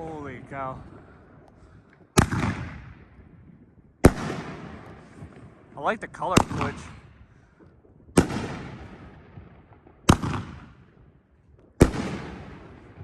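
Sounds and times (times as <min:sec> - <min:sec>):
firework bangs: 0:00.0 - 0:11.0, 0:11.7 - 0:13.0.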